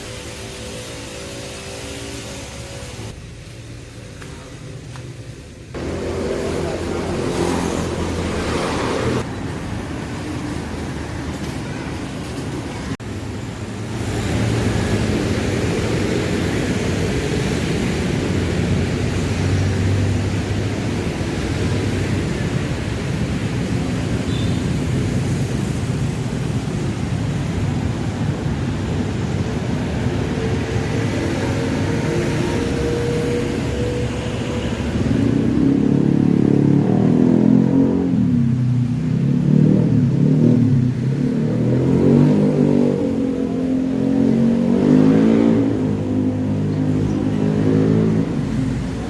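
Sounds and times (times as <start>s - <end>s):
motor vehicles passing: 0.0s - 49.0s.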